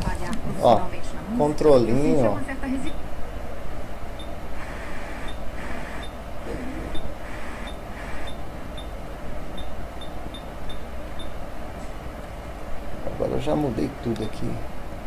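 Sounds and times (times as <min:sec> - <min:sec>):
speaker hum and hiss: 0:00.0 - 0:15.0.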